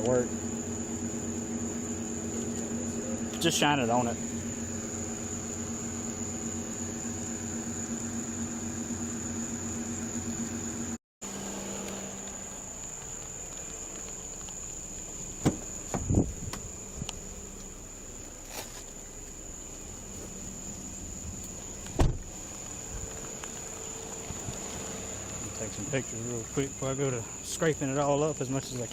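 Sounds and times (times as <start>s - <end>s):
high-pitched insect drone: 0.0s - 28.9s
vehicle idling hum: 0.0s - 28.9s.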